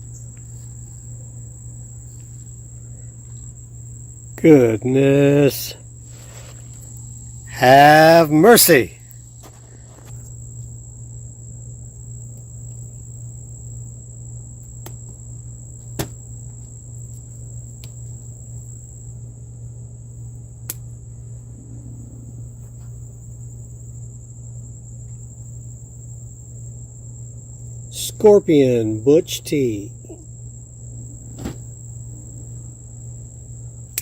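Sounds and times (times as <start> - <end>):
insects chirring: 0.0 - 34.0
low hum: 0.0 - 34.0.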